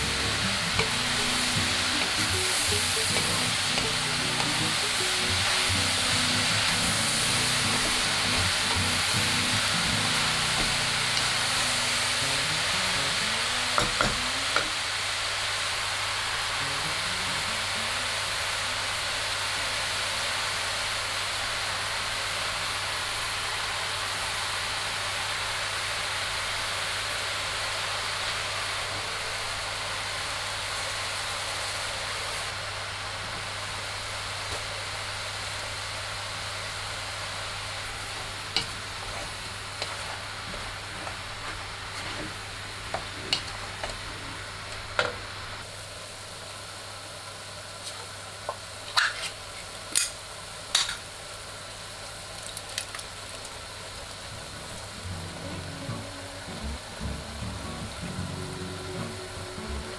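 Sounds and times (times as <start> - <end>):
vegetables sizzling in a pot: 0.0 - 59.9.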